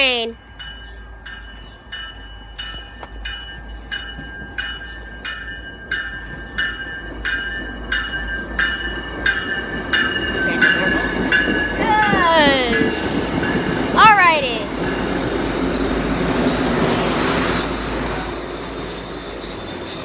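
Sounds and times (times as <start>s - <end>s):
crossing bell ringing: 0.0s - 20.0s
train rumbling: 0.0s - 20.0s.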